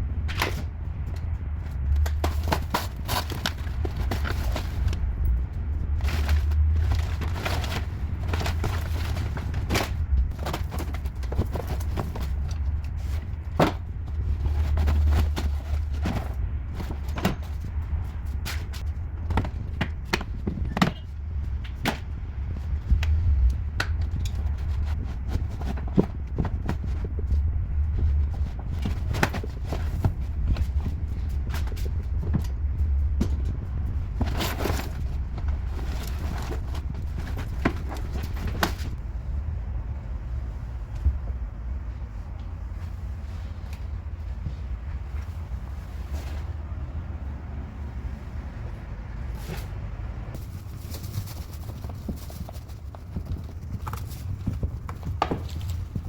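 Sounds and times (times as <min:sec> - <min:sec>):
low rumble: 0:00.0 - 0:19.8, 0:21.1 - 0:56.0.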